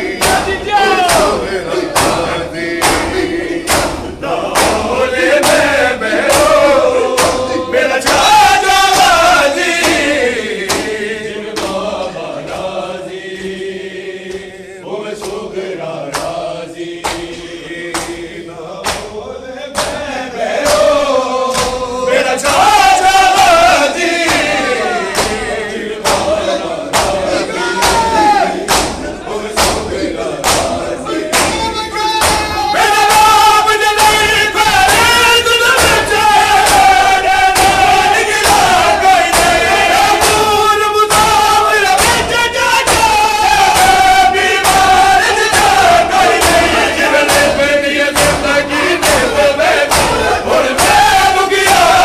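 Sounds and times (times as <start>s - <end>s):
men chanting a lament: 0.0s - 52.0s
hands slapping chests: 0.1s - 13.6s, 15.1s - 19.2s, 19.8s - 52.0s.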